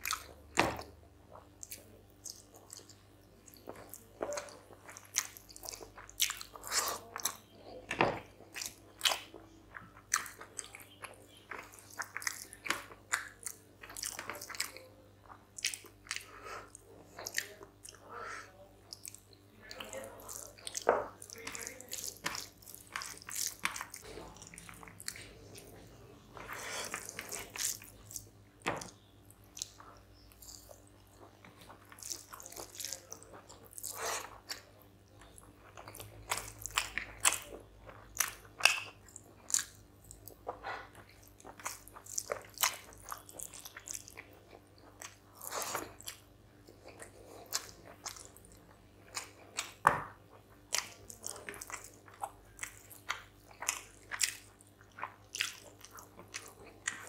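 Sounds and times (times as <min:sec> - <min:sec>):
man chewing with wet smacks: 0:00.0 - 0:57.0.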